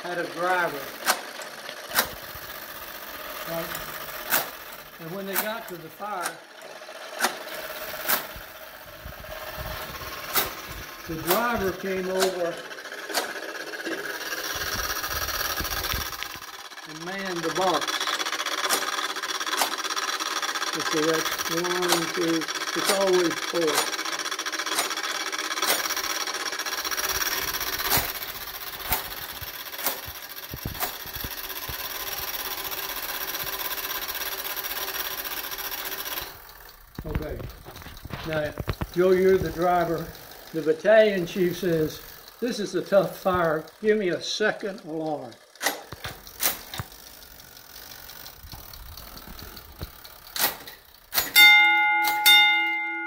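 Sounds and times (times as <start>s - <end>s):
clockwork whirring: 0.0s - 53.0s
sharp mechanical clicks: 0.5s - 51.4s.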